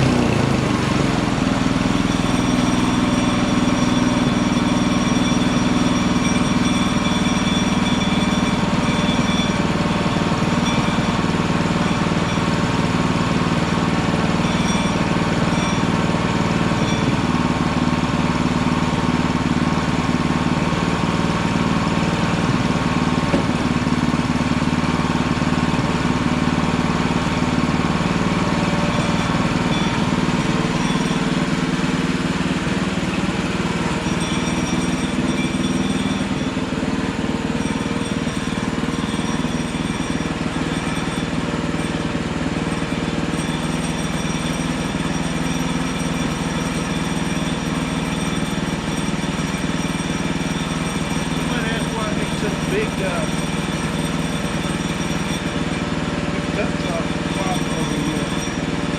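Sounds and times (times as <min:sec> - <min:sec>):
band sawmill engine running: 0:00.0 - 0:58.9.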